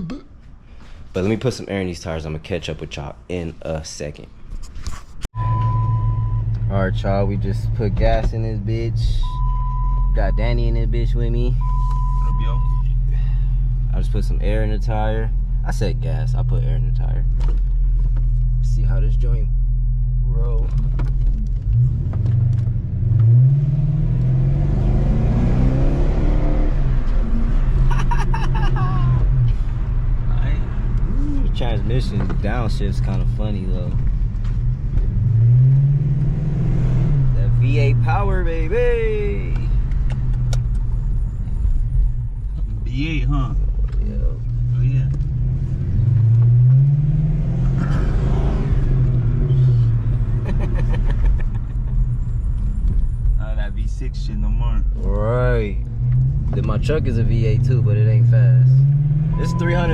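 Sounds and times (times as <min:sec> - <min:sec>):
road rumble: 0:00.4 - 0:59.9
car engine accelerating: 0:05.4 - 0:59.9.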